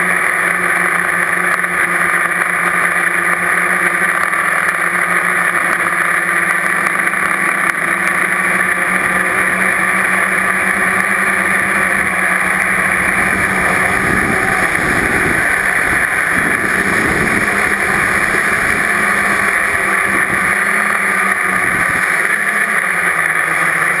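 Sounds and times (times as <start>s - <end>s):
drone motors humming: 0.0s - 24.0s
low rumbling buffets: 0.1s - 24.0s.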